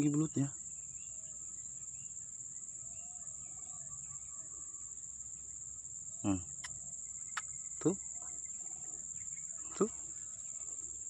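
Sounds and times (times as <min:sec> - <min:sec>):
crickets chirring: 0:00.0 - 0:11.0
faint chirps: 0:00.0 - 0:11.0.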